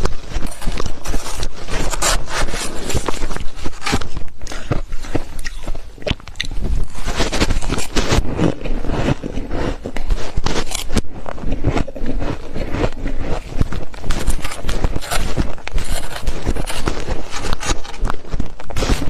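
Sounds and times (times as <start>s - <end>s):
freezer frost crunching: 0.0s - 19.0s.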